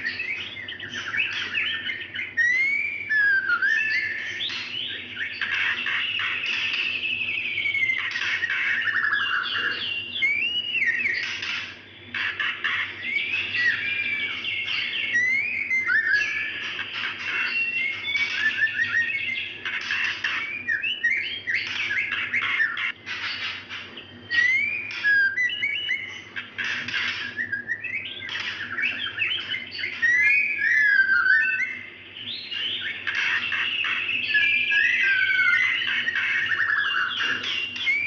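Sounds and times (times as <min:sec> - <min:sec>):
bird whistling and scratchy calls: 0:00.0 - 0:38.0.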